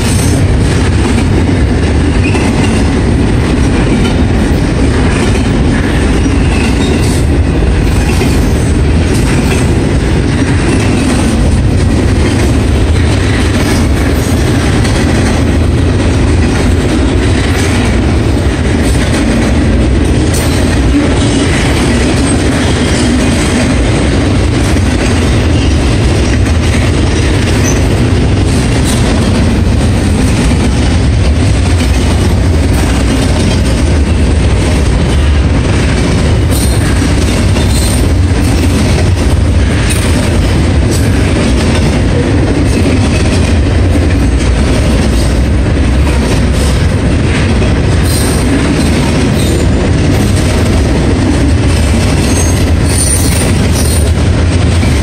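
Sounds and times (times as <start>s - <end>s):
clacks over rail joints: 0.0s - 55.0s
steel wheels rumbling on rail: 0.0s - 55.0s.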